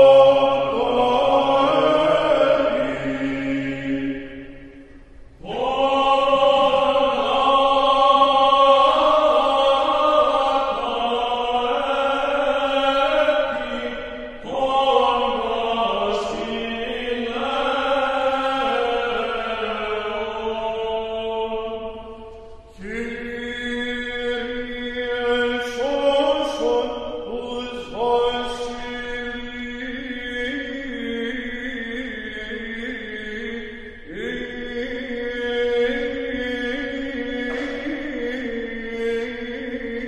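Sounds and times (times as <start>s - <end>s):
slow chanting voices: 0.0s - 40.0s.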